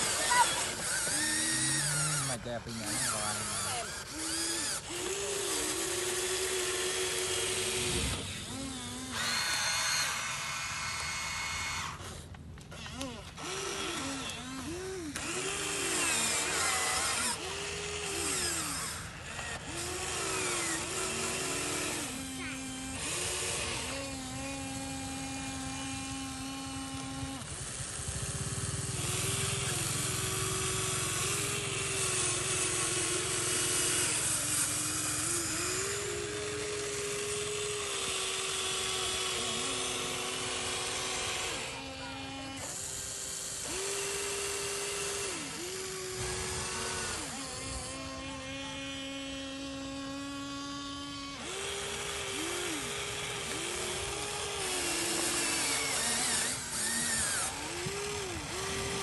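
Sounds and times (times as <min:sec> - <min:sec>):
small electric motors whining: 0:00.0 - 0:59.0.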